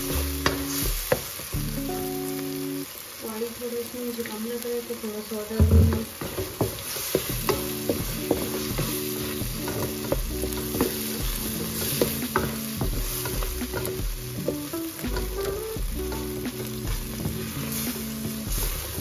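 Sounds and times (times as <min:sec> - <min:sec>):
food sizzling in pan: 0:00.0 - 0:19.0.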